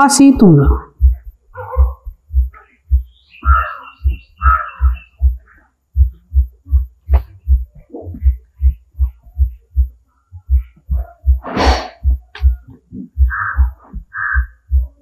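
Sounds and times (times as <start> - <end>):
low throbbing pulse: 0.0 - 15.0.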